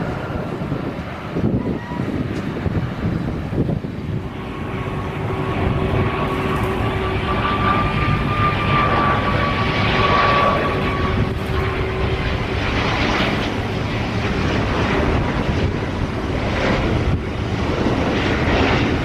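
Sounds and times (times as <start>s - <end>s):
high engine whine: 0.0s - 19.0s
jet engine roar: 0.0s - 19.0s.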